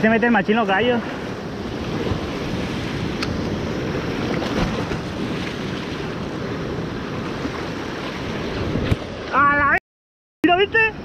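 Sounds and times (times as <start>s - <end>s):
ocean surf washing on shore: 0.0s - 9.8s
wind rumbling on microphone: 0.0s - 9.8s.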